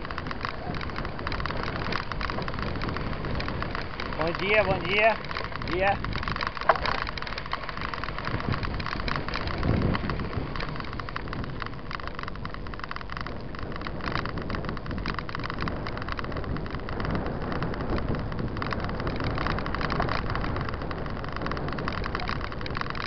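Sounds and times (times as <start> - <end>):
bike rattle: 0.0 - 23.0
tyre noise on road: 0.0 - 23.0
wind rumble on microphone: 0.0 - 23.0.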